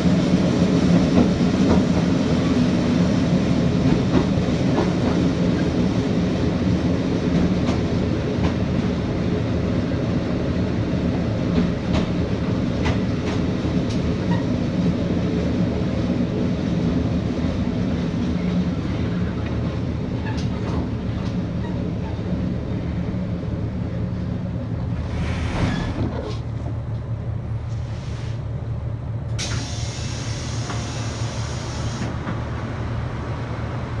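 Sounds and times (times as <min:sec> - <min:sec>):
railcar engine and wheels rumbling: 0:00.0 - 0:34.0.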